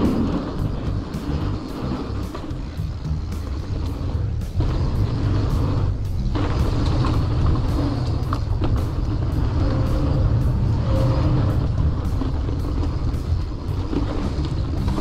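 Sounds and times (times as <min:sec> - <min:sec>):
bike knocking and rattling: 0:00.0 - 0:15.0
bike tyres rolling on dirt: 0:00.0 - 0:15.0
wind on microphone: 0:00.0 - 0:15.0.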